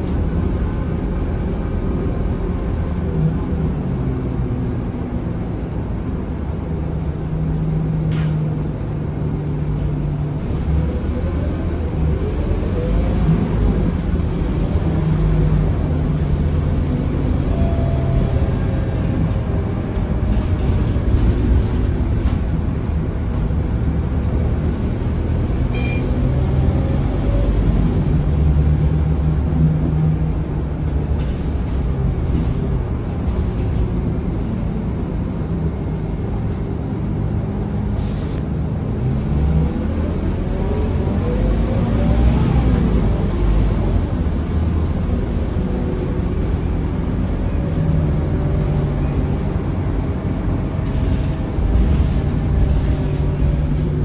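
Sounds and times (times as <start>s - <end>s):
bus diesel engine pulling: 0.0s - 54.0s.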